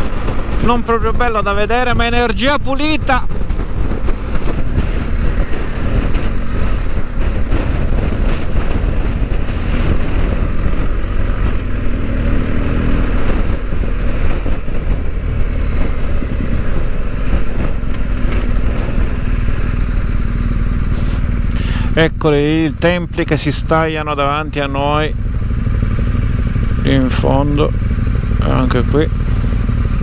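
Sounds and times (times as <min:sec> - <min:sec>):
motorcycle engine running: 0:00.0 - 0:30.0
wind rumble on microphone: 0:00.0 - 0:30.0.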